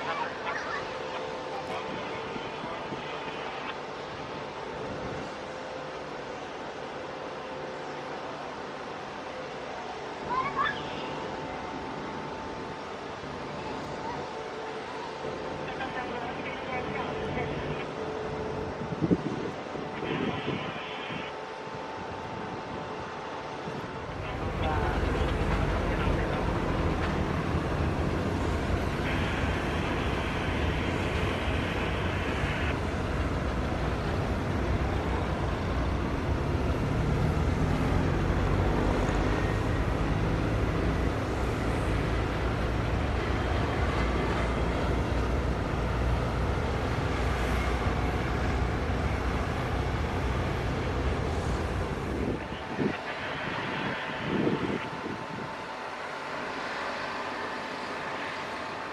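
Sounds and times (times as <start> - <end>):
jet engines roaring: 0.0 - 58.9.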